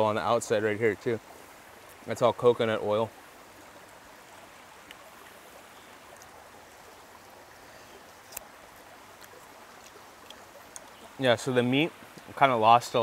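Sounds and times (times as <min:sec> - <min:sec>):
stream running: 0:00.0 - 0:13.0.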